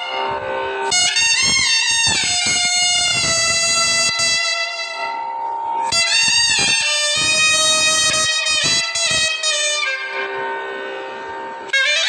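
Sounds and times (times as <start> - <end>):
shehnai melody: 0.0 - 12.0.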